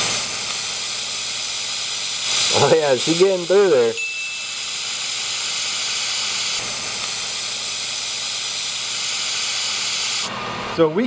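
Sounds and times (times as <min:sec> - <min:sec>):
laser welder hissing: 0:00.0 - 0:10.4.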